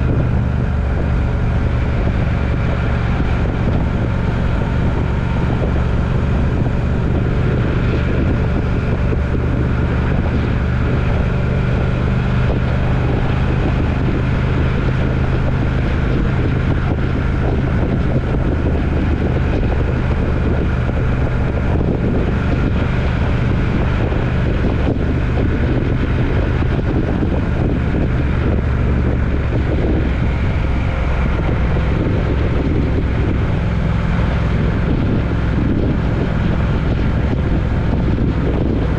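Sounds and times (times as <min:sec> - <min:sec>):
road and wind noise: 0:00.0 - 0:38.9
vehicle engine drone: 0:00.0 - 0:38.9.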